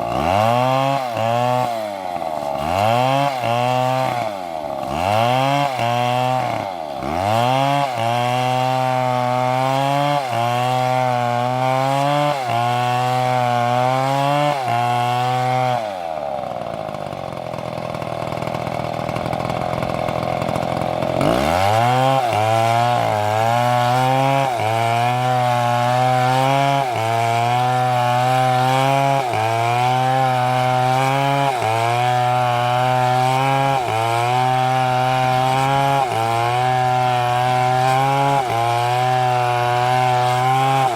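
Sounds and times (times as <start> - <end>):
chainsaw cutting into tree: 0.0 - 40.9.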